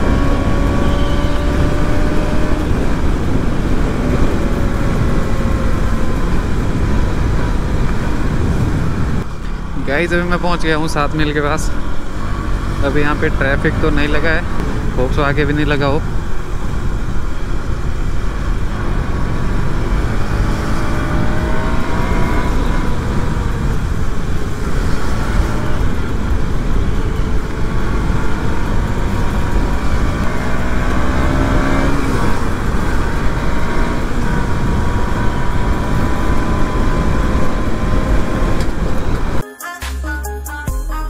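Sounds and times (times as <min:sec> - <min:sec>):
motorcycle engine revving: 0:00.0 - 0:39.4
wind and road noise: 0:00.0 - 0:39.4.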